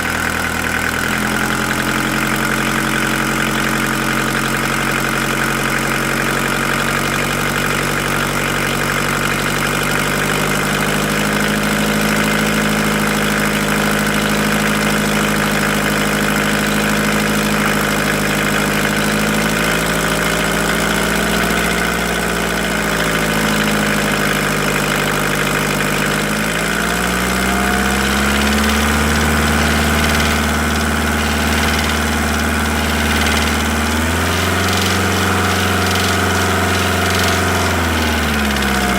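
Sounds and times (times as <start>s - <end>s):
diesel engine running with clatter: 0.0s - 38.9s.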